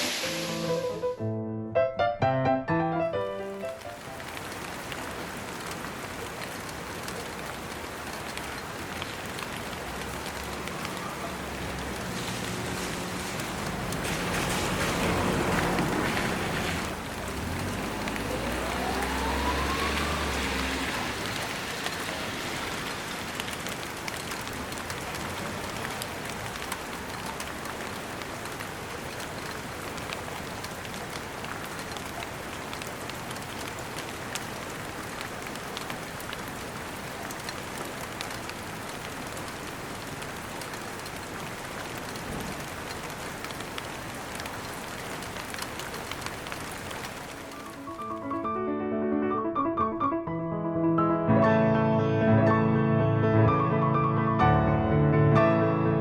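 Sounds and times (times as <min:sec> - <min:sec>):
steady rain falling: 0:00.0 - 0:01.1, 0:03.3 - 0:48.5.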